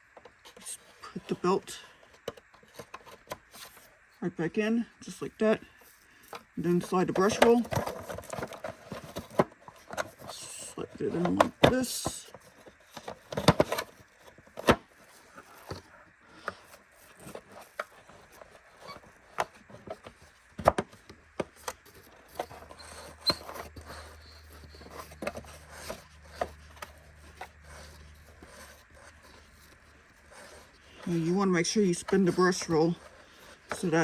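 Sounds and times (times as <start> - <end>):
plastic vacuum parts clicking and knocking: 2.0 - 3.8, 6.2 - 34.0.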